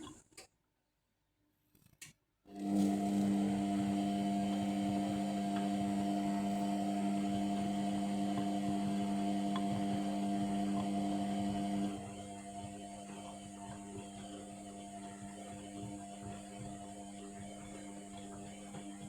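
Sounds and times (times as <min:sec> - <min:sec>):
washing machine hum: 0:02.5 - 0:19.0.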